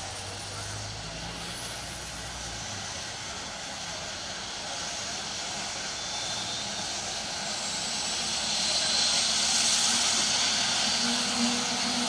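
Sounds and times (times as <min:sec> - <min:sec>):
aircraft engine rushing: 0:00.0 - 0:12.0.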